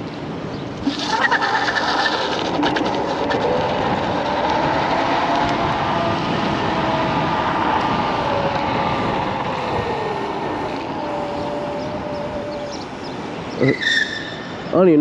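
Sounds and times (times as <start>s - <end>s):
electric scooter rushing noise: 0.0s - 14.7s.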